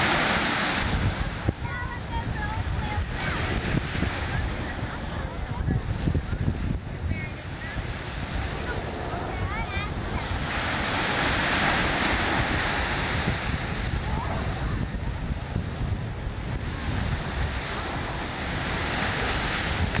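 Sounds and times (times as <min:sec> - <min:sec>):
ocean surf washing onto beach: 0:00.0 - 0:20.0
wind buffeting microphone: 0:00.0 - 0:20.0.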